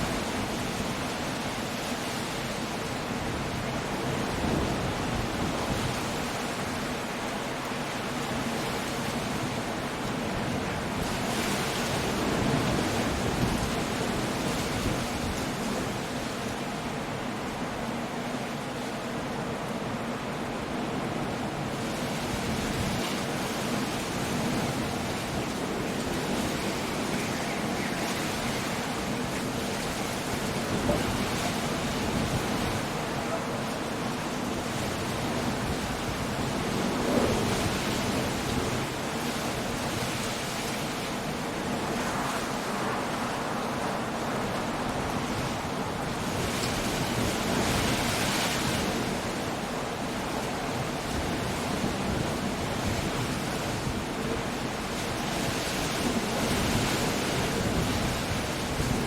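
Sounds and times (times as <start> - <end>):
rain: 0.0 - 59.0
sea waves breaking: 0.0 - 59.0
wind: 0.0 - 59.0.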